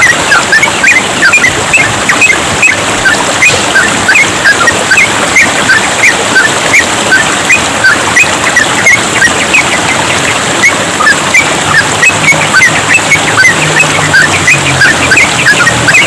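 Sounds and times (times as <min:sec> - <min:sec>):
birds chirping: 0:00.0 - 0:16.0
trickling water: 0:00.0 - 0:16.0.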